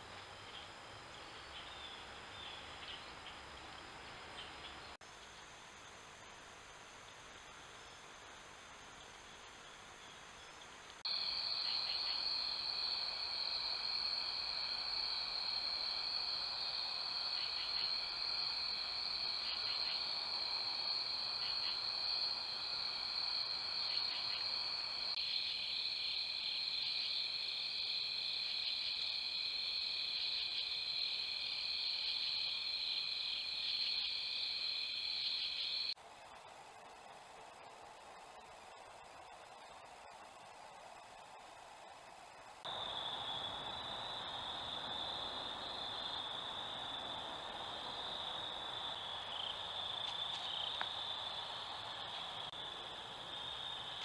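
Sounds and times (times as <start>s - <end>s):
faint hiss: 0.0s - 54.0s
crickets and insects trilling: 0.3s - 54.0s.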